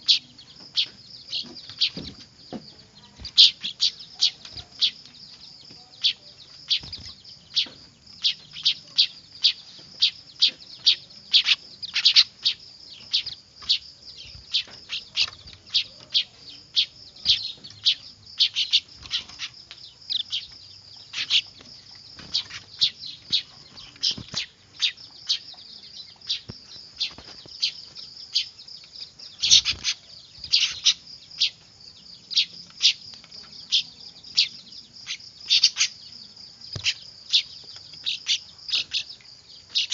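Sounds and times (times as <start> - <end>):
high bird chatter: 0.0 - 39.9
young birds chirping: 0.0 - 39.9.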